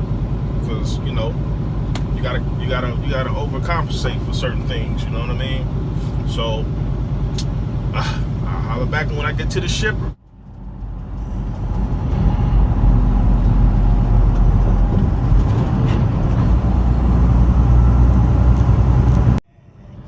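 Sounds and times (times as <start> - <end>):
diesel truck engine with road noise: 0.0 - 20.0.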